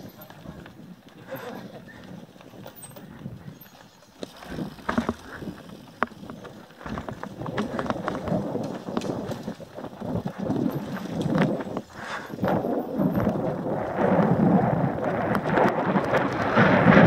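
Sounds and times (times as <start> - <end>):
bike frame rattle: 0.0 - 14.5
bike tyre rumble on dirt: 0.0 - 17.0.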